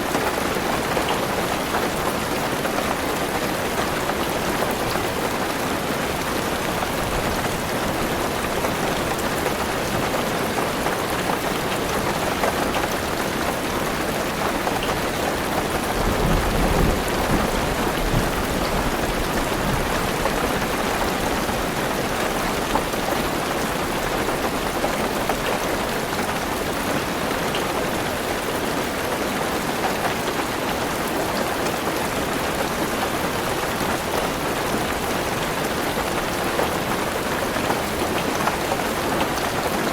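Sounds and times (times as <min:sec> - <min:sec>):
heavy rain on a car roof: 0:00.0 - 0:39.9.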